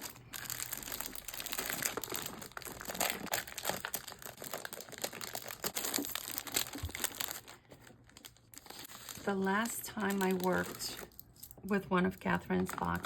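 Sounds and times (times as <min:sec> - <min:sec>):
paper rustling and crinkling: 0:00.0 - 0:11.6.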